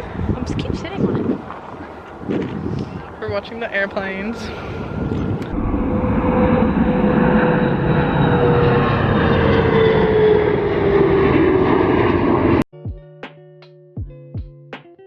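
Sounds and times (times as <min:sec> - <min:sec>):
airplane engines roaring past: 0:00.0 - 0:12.7.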